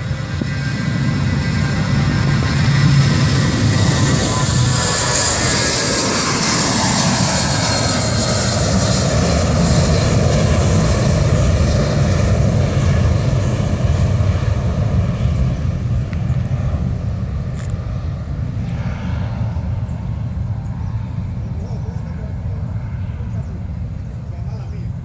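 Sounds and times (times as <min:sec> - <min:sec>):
jet engines roaring with whine: 0:00.0 - 0:25.0.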